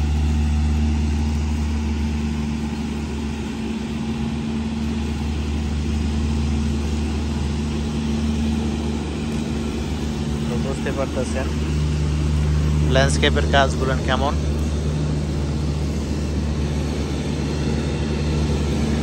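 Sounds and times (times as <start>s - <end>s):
ride-on mower engine droning: 0.0s - 19.0s.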